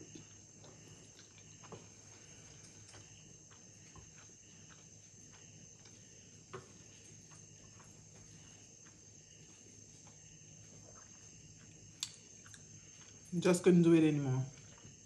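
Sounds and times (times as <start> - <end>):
quiet chewing: 0.0 - 13.3.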